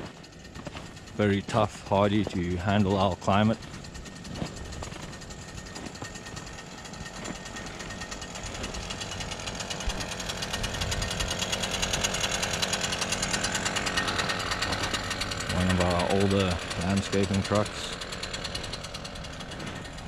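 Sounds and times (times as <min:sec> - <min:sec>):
motor running with fast rattle: 0:00.0 - 0:20.0.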